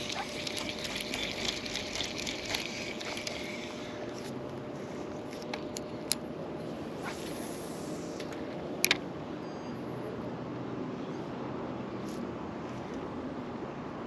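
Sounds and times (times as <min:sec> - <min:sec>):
outdoor background noise on water: 0:00.0 - 0:14.0.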